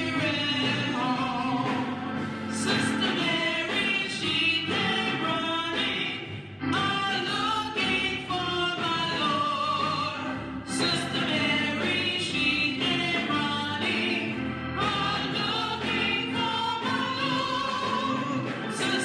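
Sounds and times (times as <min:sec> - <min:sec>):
gospel singing with accompaniment: 0:00.0 - 0:19.0.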